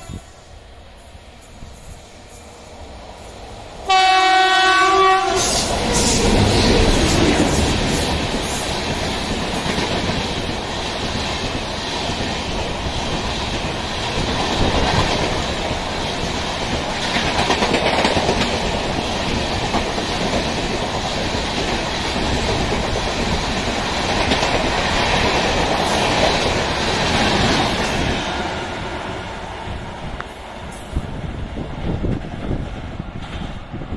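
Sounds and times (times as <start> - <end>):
train passing with wheel clatter: 0.0 - 33.9.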